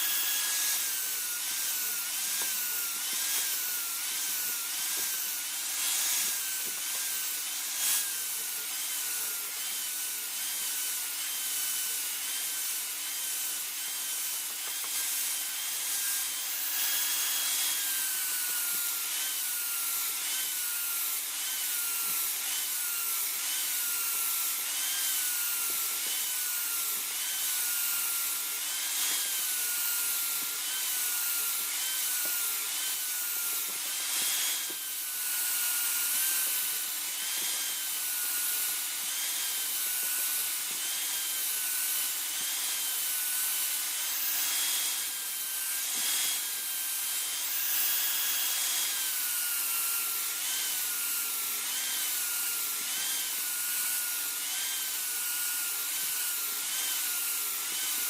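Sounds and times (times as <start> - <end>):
grinder rasping on steel blade: 0.0 - 58.0.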